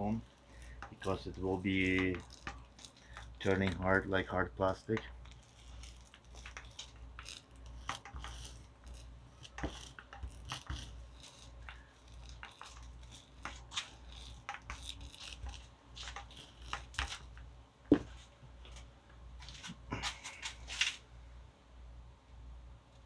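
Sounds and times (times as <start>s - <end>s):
small clicks and crackles: 0.0s - 21.0s
sticky scraping of glue spreading: 0.0s - 21.0s
low steady hum: 0.0s - 23.0s.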